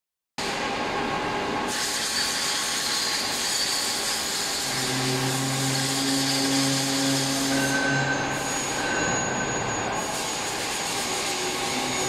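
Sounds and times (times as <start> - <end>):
factory machinery running: 0.4 - 12.0.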